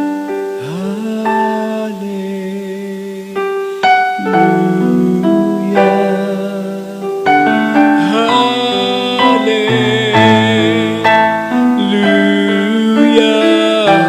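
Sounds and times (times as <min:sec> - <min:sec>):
piano keyboard playing worship song: 0:00.0 - 0:14.0.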